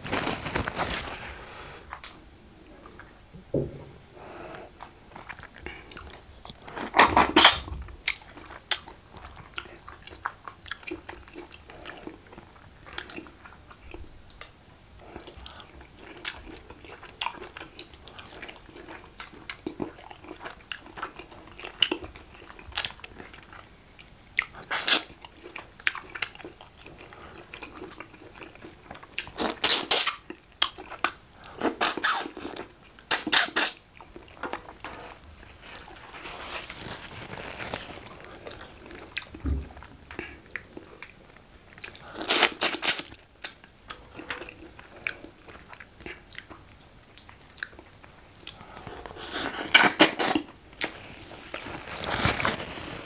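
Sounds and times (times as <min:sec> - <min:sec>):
chewing: 0:04.5 - 0:51.7.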